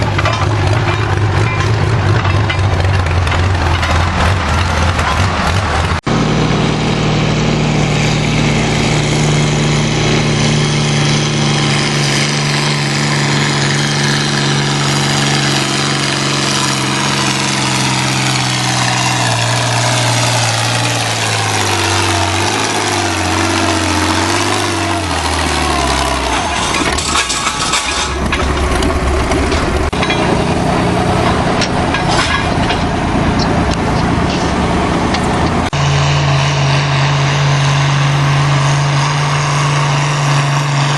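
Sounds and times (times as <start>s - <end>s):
louder engine: 0.0s - 40.9s
tractor engine labouring: 0.0s - 40.9s.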